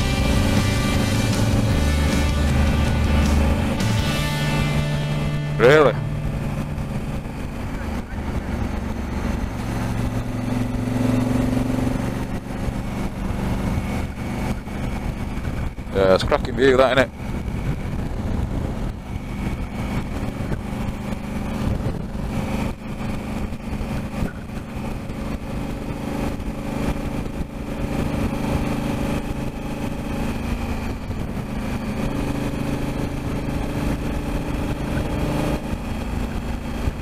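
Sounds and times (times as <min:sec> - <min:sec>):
motorcycle engine cruising: 0:00.0 - 0:37.0
wind rushing over microphone: 0:06.0 - 0:37.0.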